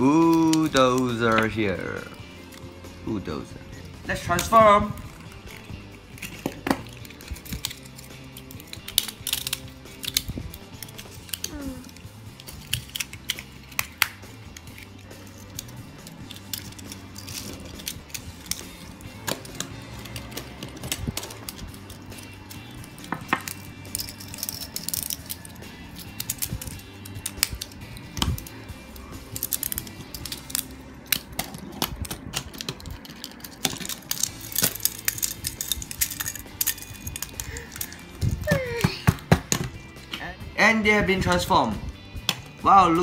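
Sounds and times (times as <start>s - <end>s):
background music: 0.0s - 43.0s.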